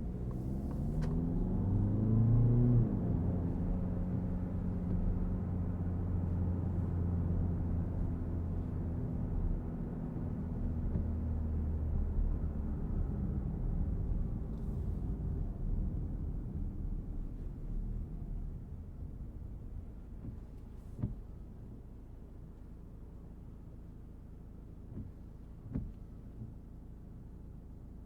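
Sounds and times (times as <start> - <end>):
diesel engine running in cabin: 0.0 - 28.0
road rumble: 0.0 - 28.0.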